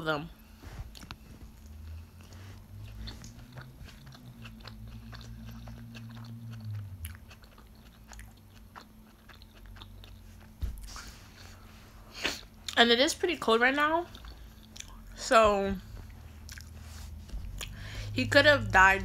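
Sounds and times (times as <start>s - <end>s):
low steady hum: 0.0s - 19.0s
person chewing food: 0.7s - 12.8s, 14.1s - 15.2s, 15.8s - 17.9s.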